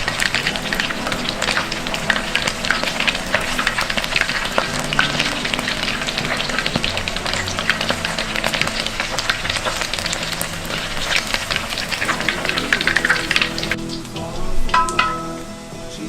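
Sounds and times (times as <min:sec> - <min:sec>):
chicken deep-frying in oil: 0:00.0 - 0:15.4.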